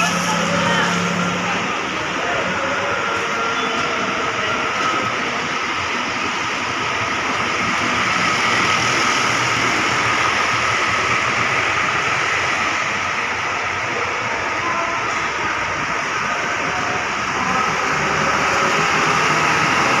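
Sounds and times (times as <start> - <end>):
bus engine running: 0.0 - 20.0
heavy rain on pavement and roofs: 0.0 - 20.0.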